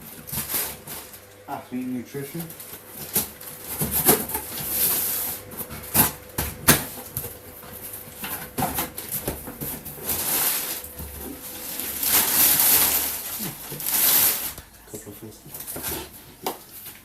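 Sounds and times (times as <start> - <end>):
packaging rustling and tearing: 0.0 - 1.5, 2.2 - 17.0.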